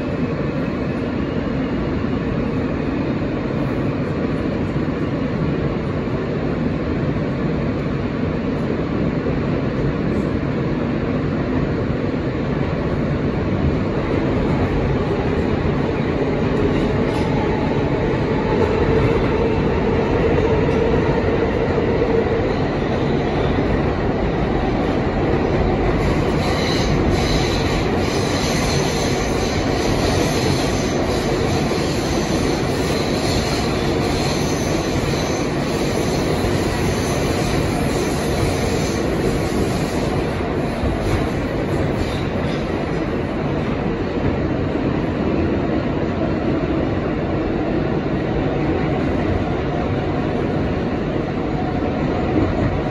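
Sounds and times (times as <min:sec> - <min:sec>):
subway train wheels rumbling: 0:00.0 - 0:52.9.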